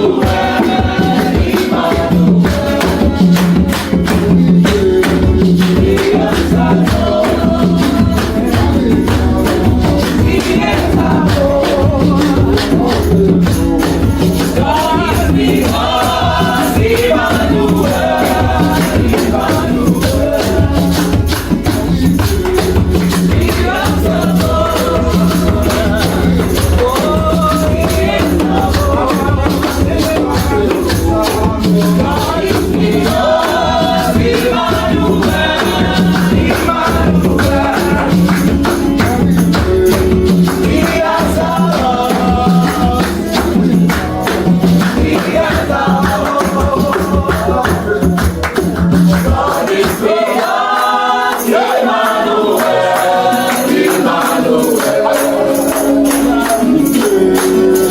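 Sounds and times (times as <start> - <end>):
choir singing: 0.0 - 48.2, 49.0 - 57.9
band with steady beat: 0.0 - 57.9.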